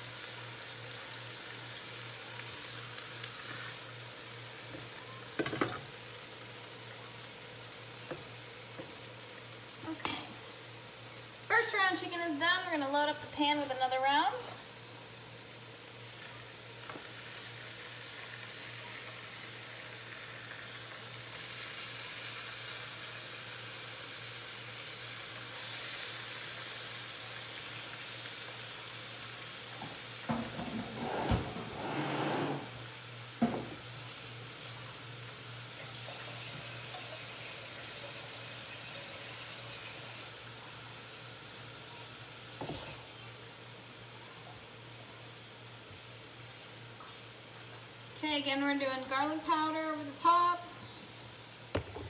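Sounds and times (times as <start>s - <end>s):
chicken sizzling in oil: 0.0s - 30.8s, 32.6s - 48.2s.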